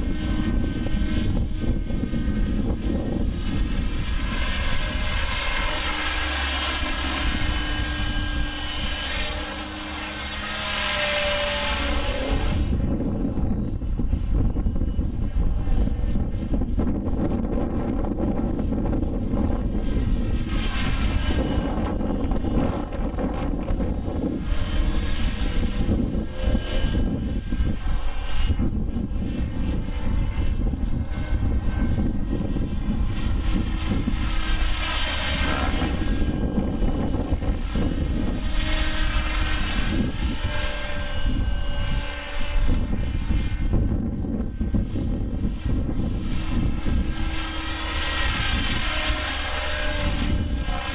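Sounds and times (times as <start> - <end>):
model helicopter rotor whine: 0.0 - 50.9
wind buffeting microphone: 0.0 - 50.9.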